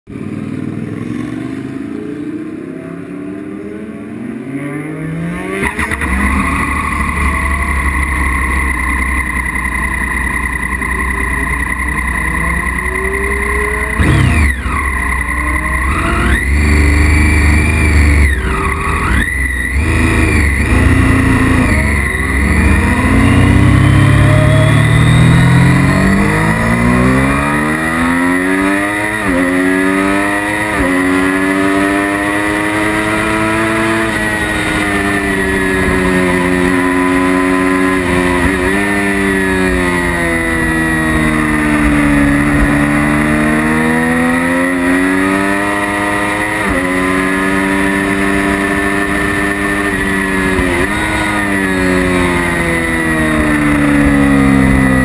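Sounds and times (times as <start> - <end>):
motorcycle engine revving: 0.1 - 55.0.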